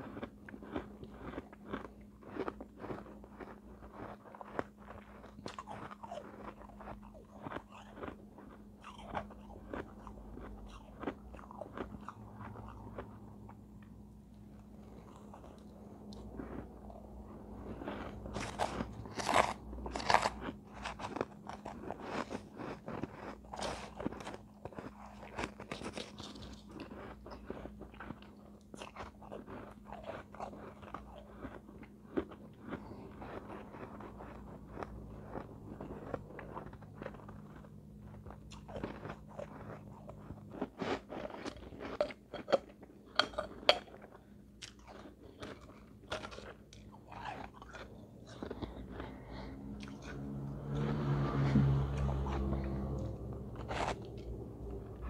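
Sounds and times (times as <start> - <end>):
ice crunching while chewed: 0.0 - 55.0.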